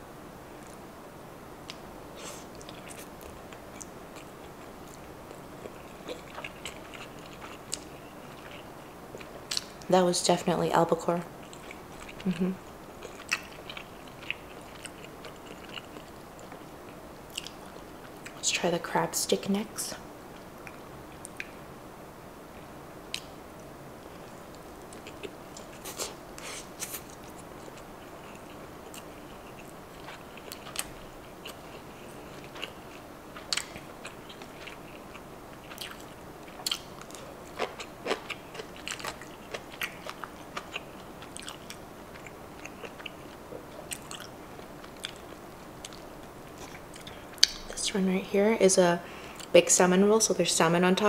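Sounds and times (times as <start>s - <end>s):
faint hum: 0.0s - 51.0s
close chewing with wet mouth sounds: 1.6s - 9.9s, 10.8s - 18.4s, 20.3s - 21.6s, 24.1s - 47.8s.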